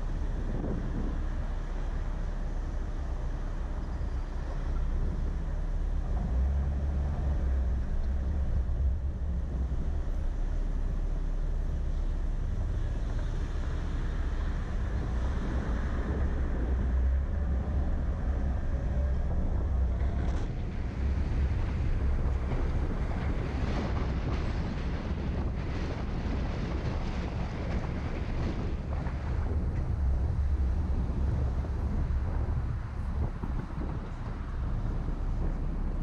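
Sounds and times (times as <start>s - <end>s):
car engine and road rumble: 0.0s - 36.0s
wind noise: 0.0s - 36.0s.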